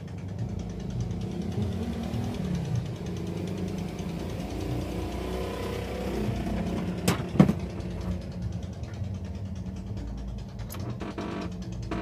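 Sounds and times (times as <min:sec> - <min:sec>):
engine-like drone: 0:00.0 - 0:12.0.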